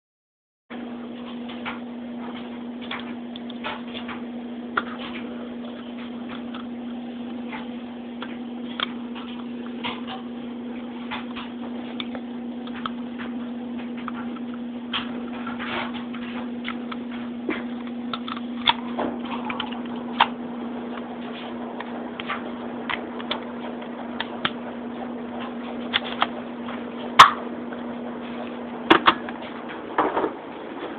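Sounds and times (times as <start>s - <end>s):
steady low hum: 0.7s - 30.9s.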